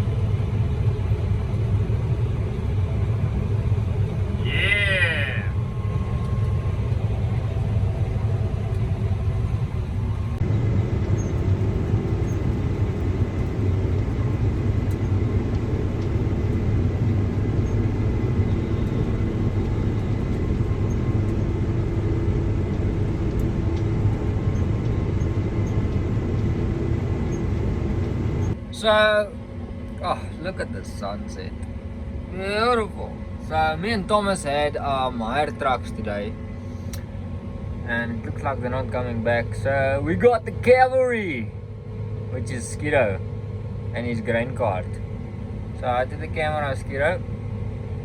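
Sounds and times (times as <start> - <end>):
combine harvester running: 0.0 - 48.0.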